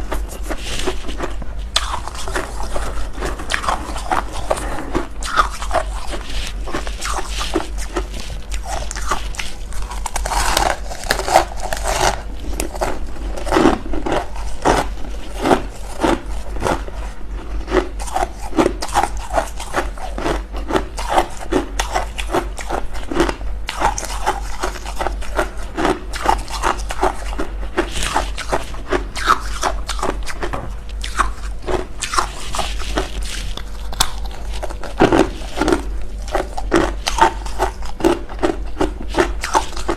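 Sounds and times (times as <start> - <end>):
frost crunching and scraping: 0.0 - 39.9.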